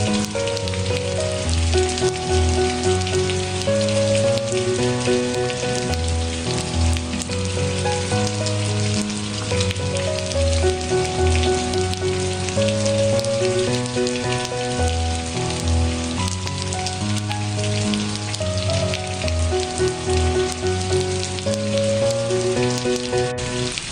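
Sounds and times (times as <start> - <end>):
soft music of held notes: 0.0 - 23.9
steady rain patter: 0.0 - 23.9.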